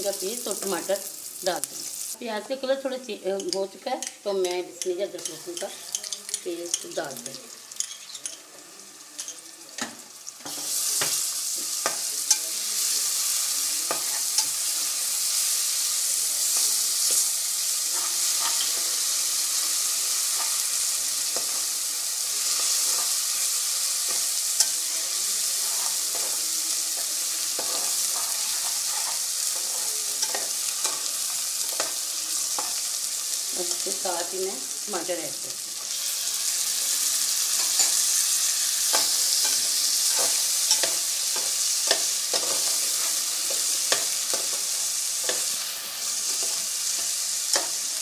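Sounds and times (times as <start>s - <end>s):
loud sizzle in hot oil: 0.0s - 48.0s.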